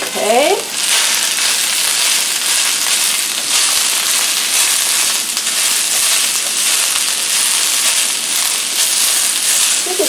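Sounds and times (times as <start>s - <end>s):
squash sizzling in frying pan: 0.0s - 10.0s.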